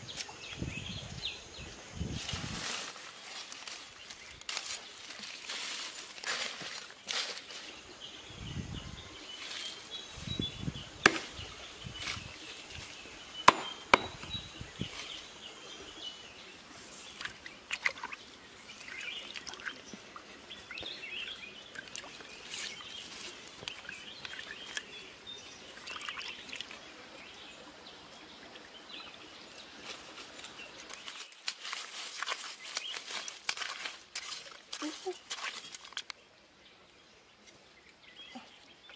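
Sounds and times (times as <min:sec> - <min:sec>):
hands rustling leaves and twigs: 0:00.0 - 0:15.8, 0:16.4 - 0:25.2, 0:29.5 - 0:36.3.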